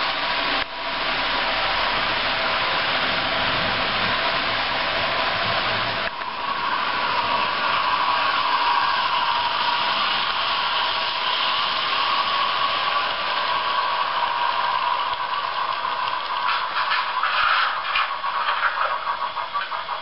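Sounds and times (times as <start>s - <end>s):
model train wheels whirring: 0.0s - 20.0s.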